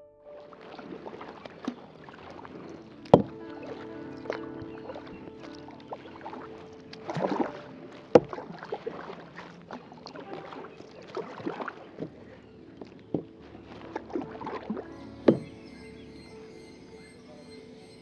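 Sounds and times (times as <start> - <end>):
paddle splashing water: 0.0 - 18.0.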